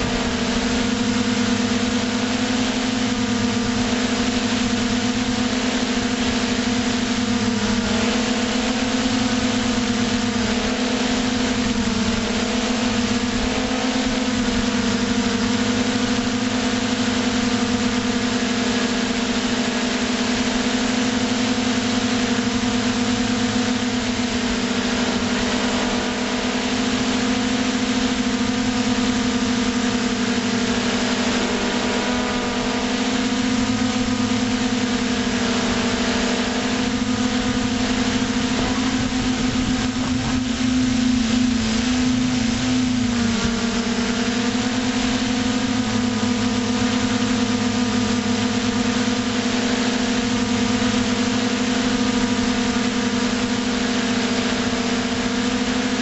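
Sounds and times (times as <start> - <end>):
drone motors humming: 0.0 - 56.0.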